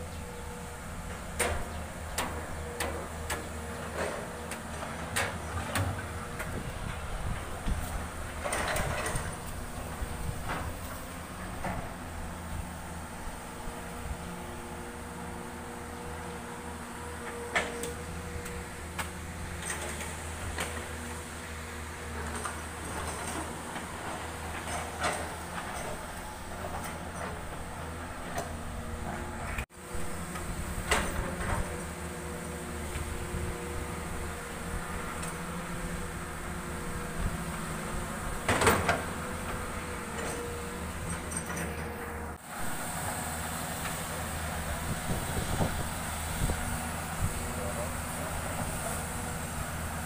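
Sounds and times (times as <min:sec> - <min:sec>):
excavator diesel engines running: 0:00.0 - 0:50.0.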